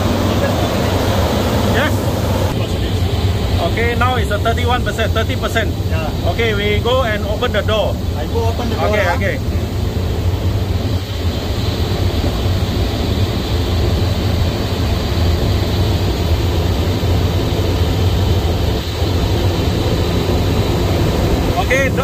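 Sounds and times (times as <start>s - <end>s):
fan droning with rushing air: 0.0s - 22.0s.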